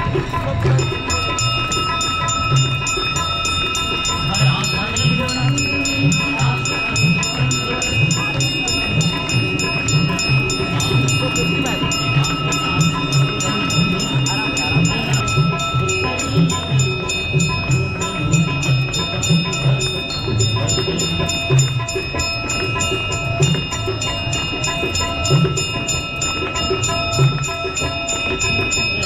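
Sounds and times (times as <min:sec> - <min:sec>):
devotional music: 0:00.0 - 0:29.0
hand bells ringing rapidly: 0:00.0 - 0:29.0.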